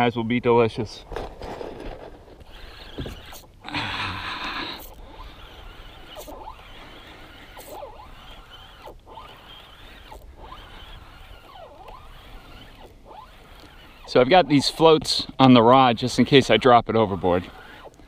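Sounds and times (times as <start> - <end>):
fishing reel whirring: 1.5 - 18.0.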